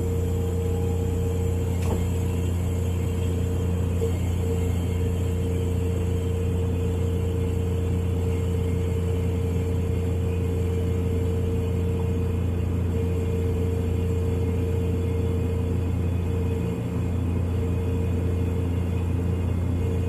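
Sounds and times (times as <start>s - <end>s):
refrigerator humming: 0.0s - 20.0s.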